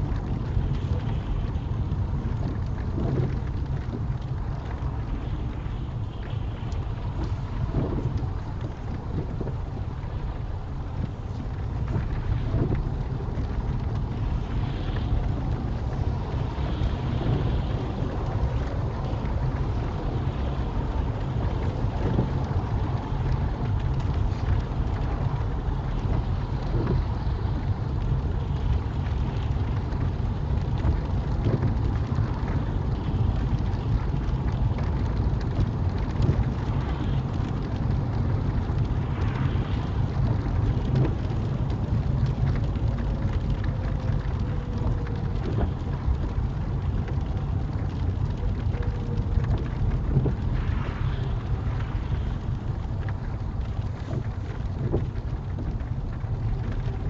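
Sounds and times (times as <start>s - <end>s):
hiss of rain and spray: 0.0s - 57.0s
rain hitting windscreen: 0.0s - 57.0s
tyre and engine rumble: 0.0s - 57.0s.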